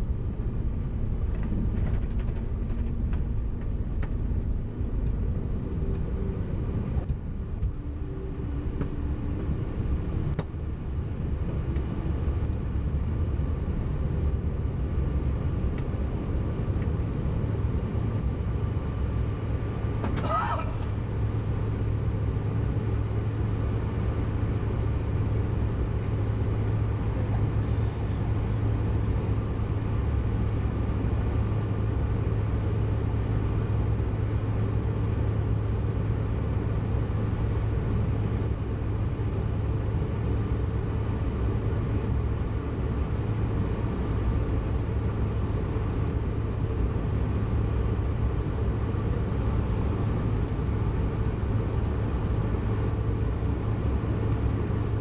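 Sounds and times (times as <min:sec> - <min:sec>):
jet engine hum: 0:00.0 - 0:55.0.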